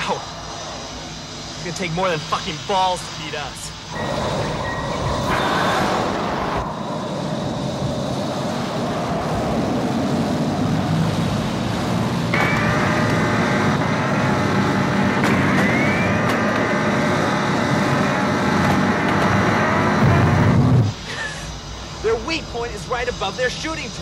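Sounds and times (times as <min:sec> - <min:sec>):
high rising whine: 0:00.0 - 0:24.0.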